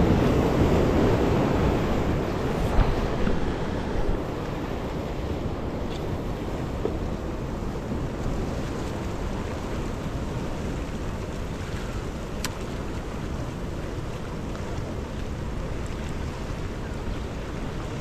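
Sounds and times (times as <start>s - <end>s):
waves washing against rocks: 0.0s - 18.0s
wind rumbling on microphone: 0.0s - 18.0s.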